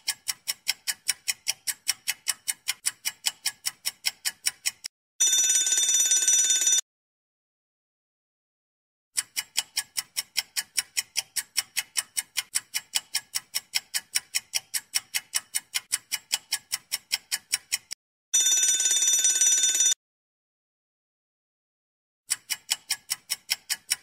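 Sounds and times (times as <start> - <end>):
fast clock ticks: 0.0 - 6.8, 9.2 - 20.0, 22.3 - 24.0.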